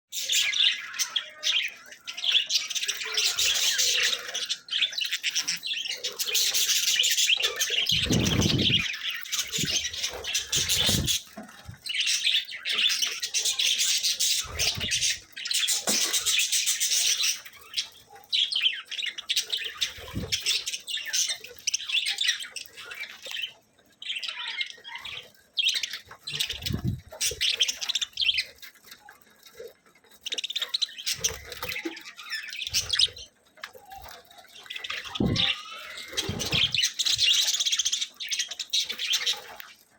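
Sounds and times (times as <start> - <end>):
budgerigars chattering: 0.1 - 29.0, 29.6 - 39.7.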